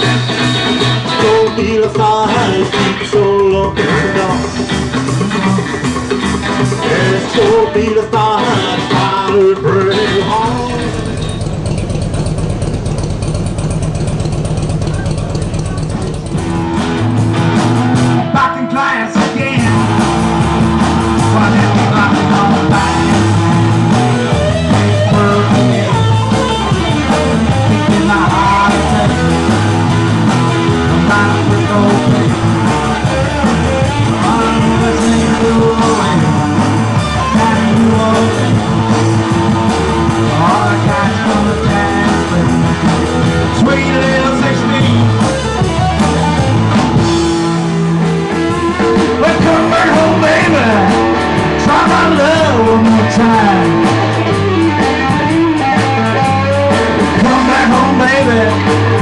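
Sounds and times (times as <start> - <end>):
drums: 0.0 - 59.0
electric guitars: 0.0 - 59.0.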